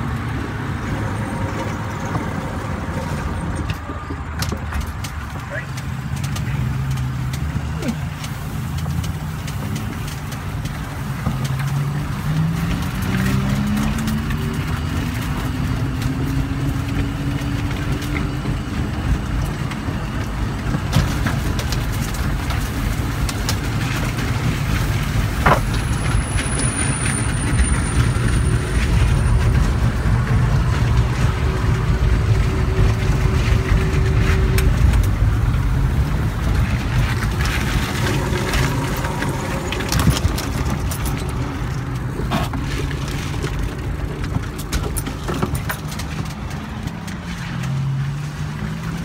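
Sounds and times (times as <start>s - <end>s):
knocks and rattles: 0.0s - 49.0s
wheels rumbling on concrete: 0.0s - 49.0s.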